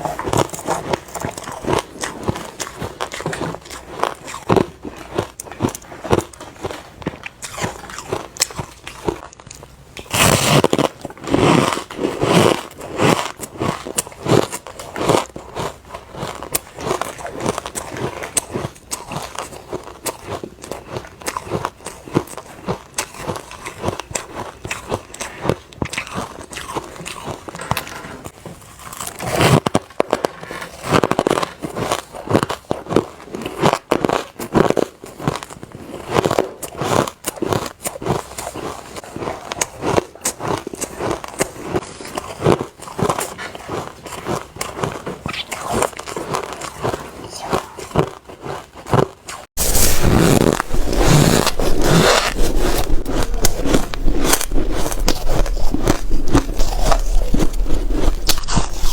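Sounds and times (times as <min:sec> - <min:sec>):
chewing crunchy ice: 0:00.0 - 0:58.9.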